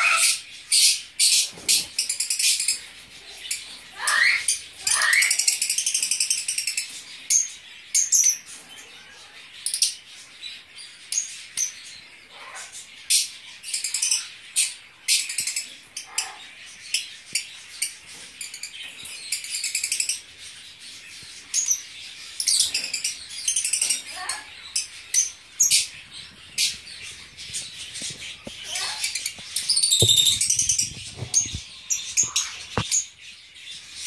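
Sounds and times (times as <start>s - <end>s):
lovebirds chattering: 0.0s - 34.0s.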